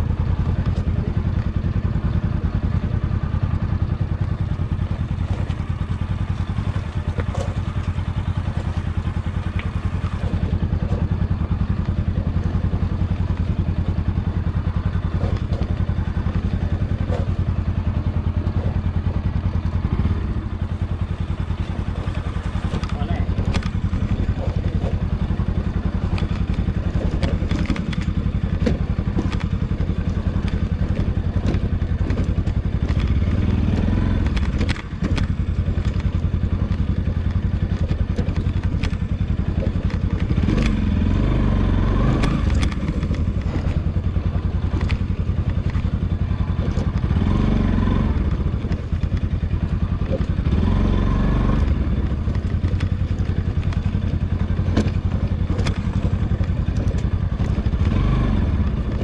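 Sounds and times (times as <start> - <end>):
motorcycle engine at low revs: 0.0 - 59.0
knocks and rattles over stones: 2.7 - 41.1, 42.1 - 47.2, 51.5 - 58.0.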